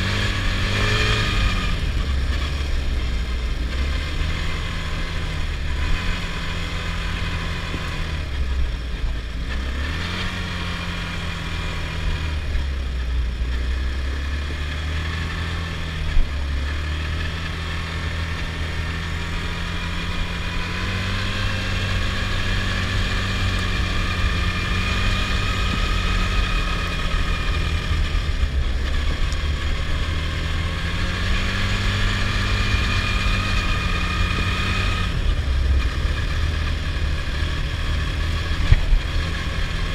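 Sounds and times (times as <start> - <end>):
high engine whine: 0.0 - 39.9
quad engine running: 0.0 - 39.9.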